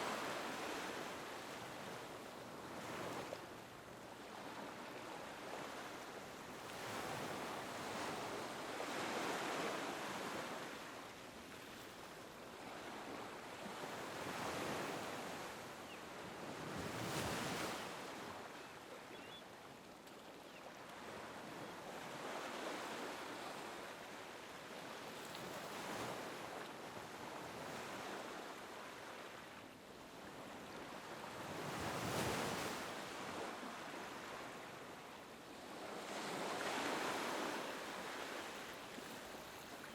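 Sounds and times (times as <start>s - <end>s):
small waves lapping on beach: 0.0s - 39.9s.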